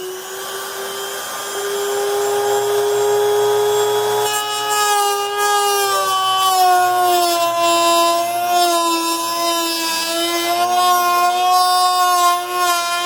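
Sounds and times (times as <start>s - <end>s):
rotary tool cutting whine: 0.0s - 13.0s.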